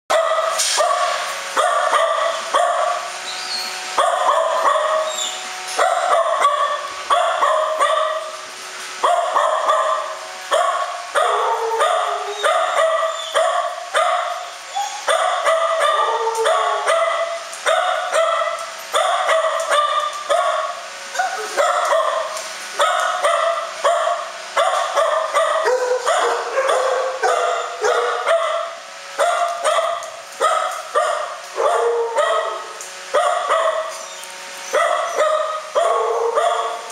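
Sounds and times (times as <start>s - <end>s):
dogs barking: 0.1s - 36.9s.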